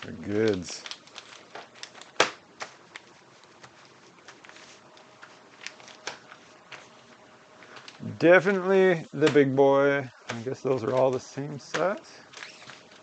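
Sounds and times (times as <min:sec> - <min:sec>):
plastic bags rustling: 0:00.0 - 0:09.5, 0:10.2 - 0:13.0.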